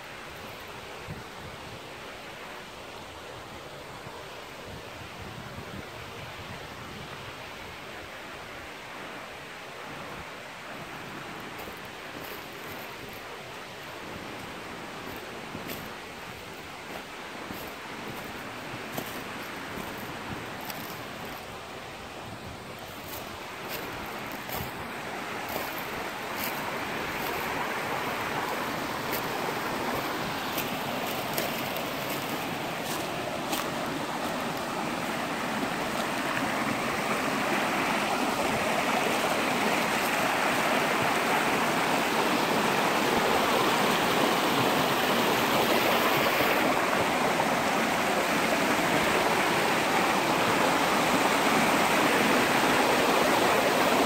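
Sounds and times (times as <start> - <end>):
stream splashing over cascades: 0.0 - 54.0.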